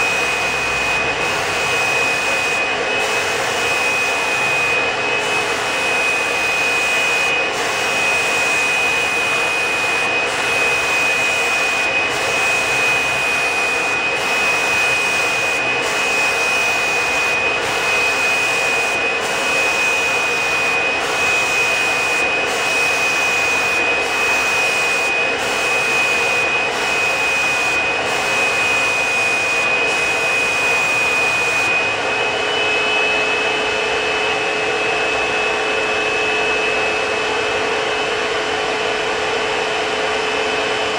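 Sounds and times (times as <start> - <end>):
turbine high whine: 0.0 - 40.9.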